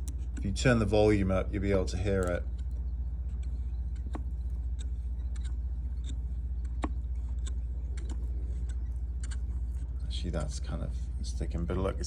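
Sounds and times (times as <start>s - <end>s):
low hum with flutter: 0.0s - 12.0s.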